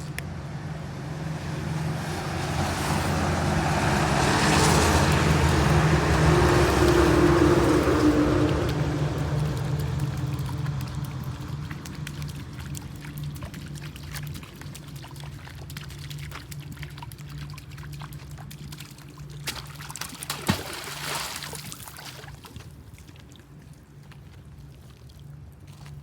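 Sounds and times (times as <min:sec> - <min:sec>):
steady low hum: 0:00.0 - 0:26.0
water splashing: 0:01.0 - 0:26.0
water trickling: 0:02.1 - 0:26.0.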